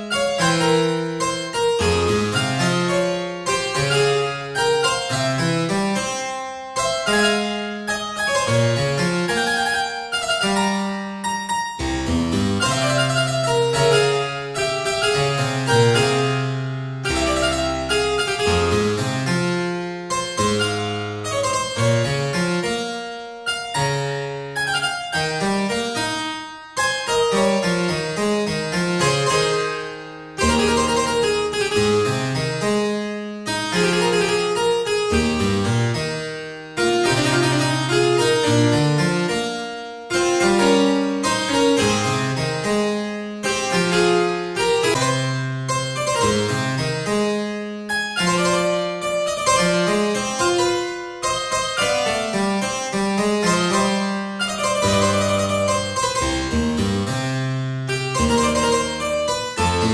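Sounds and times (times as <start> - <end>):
keyboard piece with plucked notes: 0.0 - 59.9.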